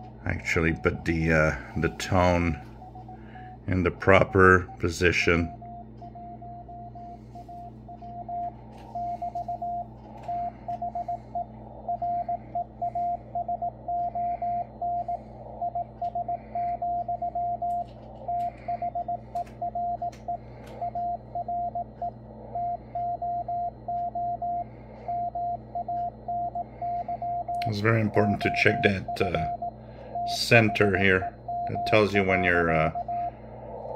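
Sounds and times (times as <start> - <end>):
morse code beeps: 0.0 - 33.9
radio band hiss and hum: 0.0 - 33.9.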